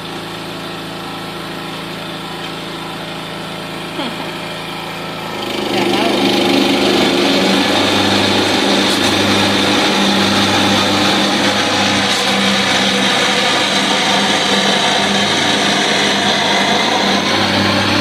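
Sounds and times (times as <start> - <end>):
lawnmower engine running: 0.0 - 18.0.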